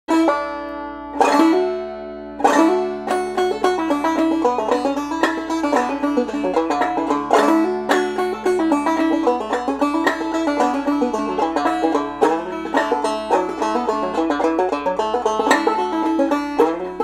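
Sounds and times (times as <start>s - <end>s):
banjo playing: 0.1s - 17.0s.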